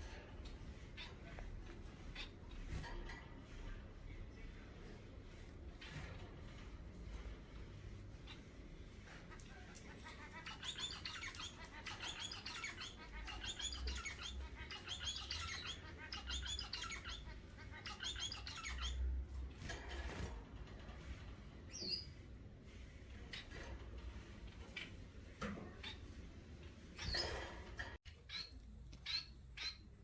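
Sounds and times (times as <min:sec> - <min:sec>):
pet birds chirping: 0:00.0 - 0:30.0.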